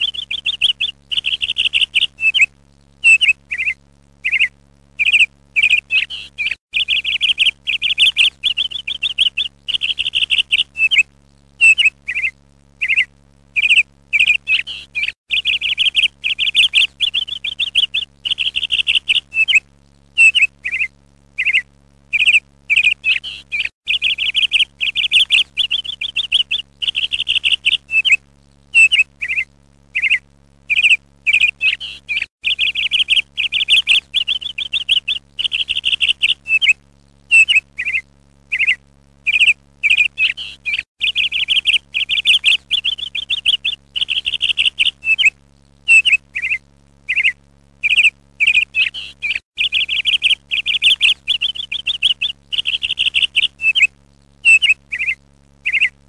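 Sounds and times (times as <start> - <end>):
songbird chirping: 0.0 - 19.6, 20.2 - 56.0
faint low hum: 0.0 - 56.0.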